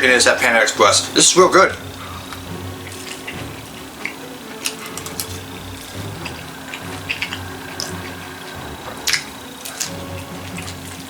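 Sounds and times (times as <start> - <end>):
low steady hum: 0.0 - 11.0
person chewing: 1.8 - 11.0
utensil clicks: 2.0 - 11.0.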